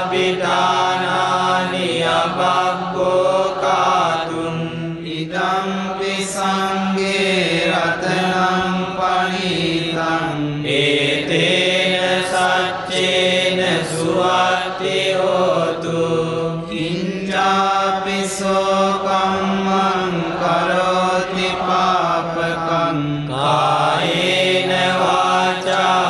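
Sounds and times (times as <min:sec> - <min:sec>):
droning chanting: 0:00.0 - 0:26.0.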